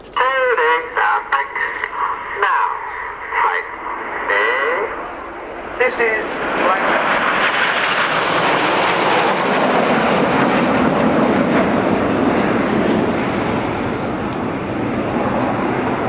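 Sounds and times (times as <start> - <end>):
jets flying overhead: 0.0 - 16.0.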